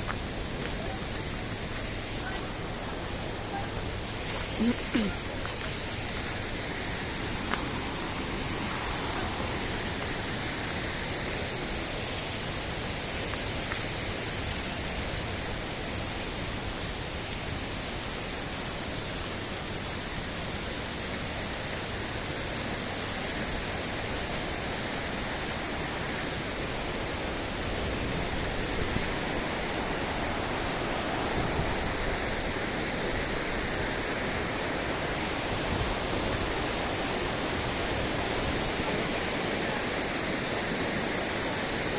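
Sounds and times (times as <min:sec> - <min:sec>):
river flowing over rocks: 0:00.0 - 0:41.9.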